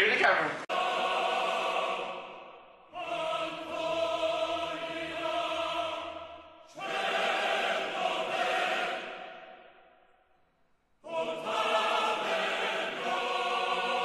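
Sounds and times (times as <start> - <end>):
choir singing held chords: 0.7 - 10.4, 11.0 - 14.0.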